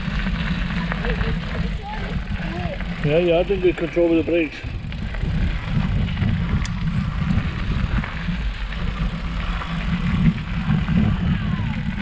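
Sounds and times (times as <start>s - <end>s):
bike tyres rumbling on dirt trail: 0.0s - 12.0s
handlebar vibration: 0.0s - 12.0s.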